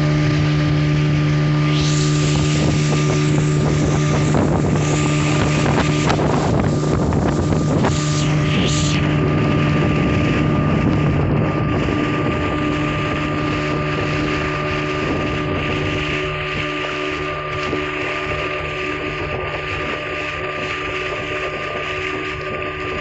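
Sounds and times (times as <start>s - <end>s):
motorboat engine droning: 0.0s - 23.0s
spray rushing along hull: 0.0s - 23.0s
wind on microphone: 0.0s - 23.0s.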